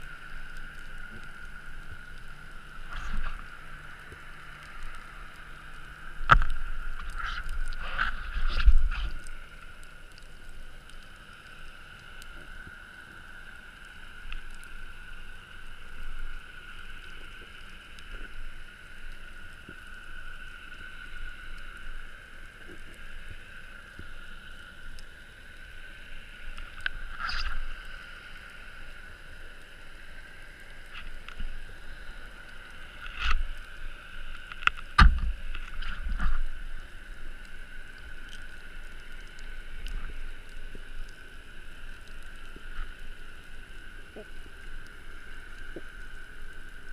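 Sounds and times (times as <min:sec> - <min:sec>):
underwater hiss: 0:00.0 - 0:46.9.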